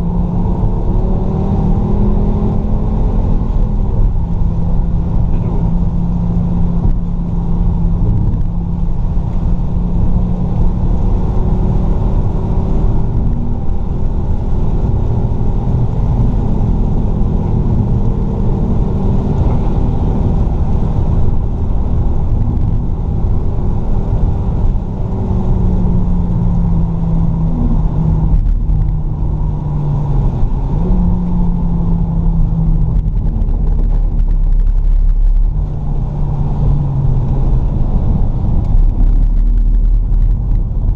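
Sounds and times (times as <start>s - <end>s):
car engine running hard: 0.0s - 40.9s.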